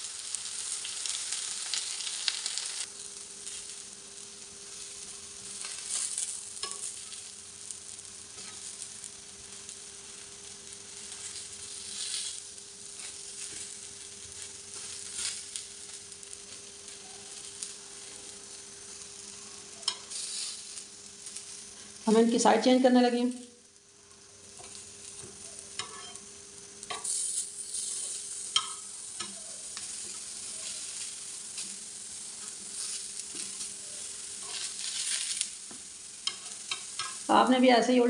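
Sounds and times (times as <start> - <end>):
eggplant sizzling on a griddle: 0.0 - 38.0.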